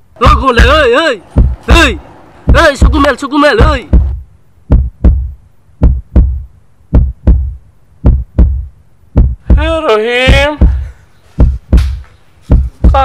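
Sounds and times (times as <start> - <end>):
heartbeat thumps: 0.2 - 13.0.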